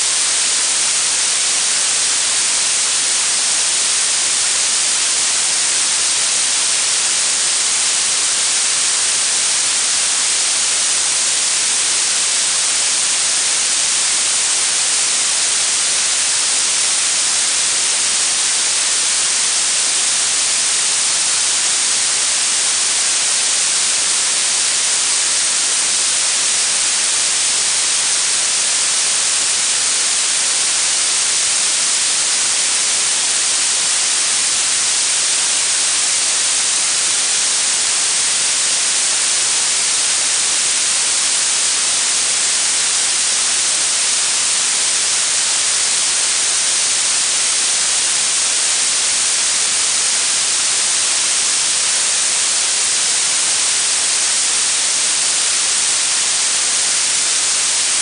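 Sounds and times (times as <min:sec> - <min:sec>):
high-pitched hiss noise: 0:00.0 - 0:58.0.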